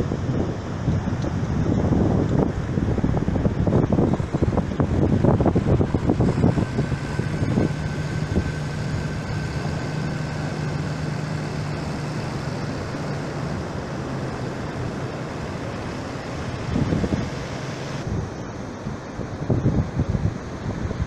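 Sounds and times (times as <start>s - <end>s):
tractor engine running: 0.0s - 19.8s
wind buffeting microphone: 0.0s - 21.0s.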